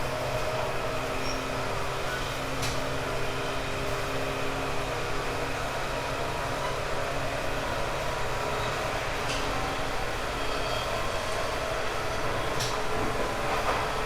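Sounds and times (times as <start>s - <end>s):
wheel and rail rumble: 0.0s - 14.0s.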